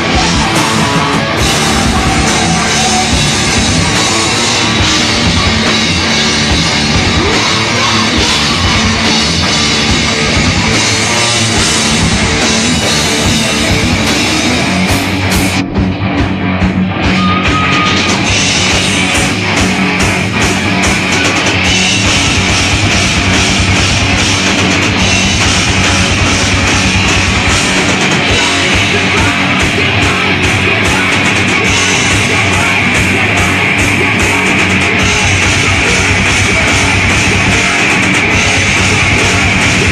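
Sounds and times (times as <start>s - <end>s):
drum kit with cymbals: 0.0s - 16.0s, 16.6s - 39.9s
electric guitar: 0.0s - 39.9s.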